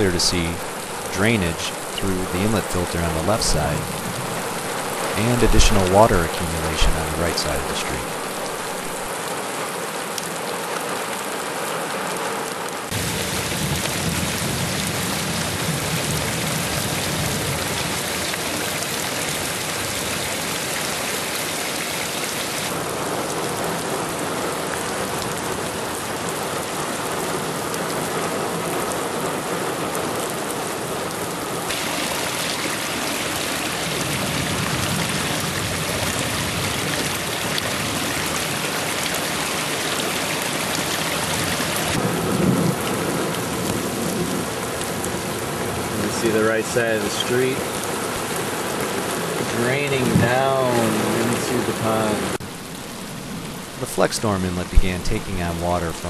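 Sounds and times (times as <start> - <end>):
heavy rain on pavement: 0.0 - 54.8.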